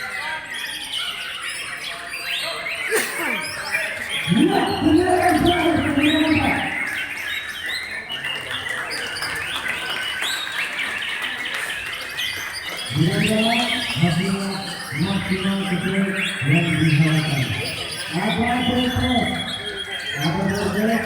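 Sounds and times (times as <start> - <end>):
chorus of birds singing: 0.0 - 21.0.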